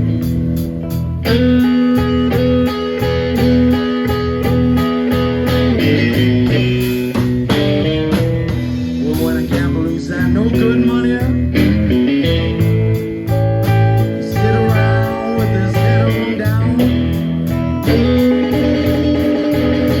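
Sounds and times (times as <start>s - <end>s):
blues guitar playing: 0.0s - 20.0s.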